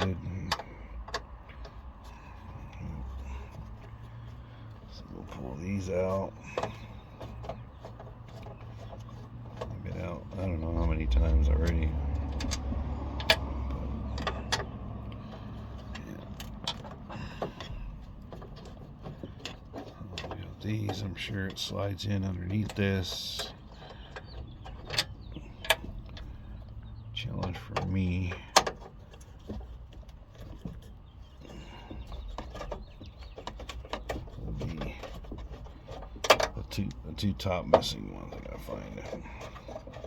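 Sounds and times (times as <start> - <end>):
plastic parts clicking and rustling: 0.0 - 40.0.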